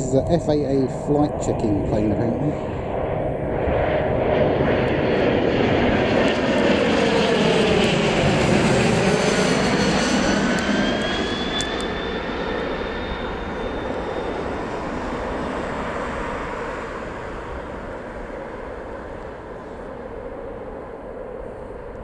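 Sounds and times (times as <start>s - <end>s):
jet aircraft passing: 0.0s - 22.0s.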